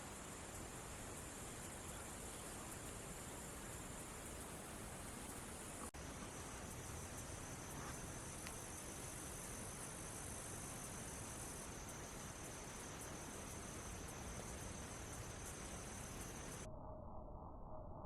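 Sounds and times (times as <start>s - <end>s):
insects singing: 0.0s - 16.6s
faint hiss: 0.0s - 16.7s.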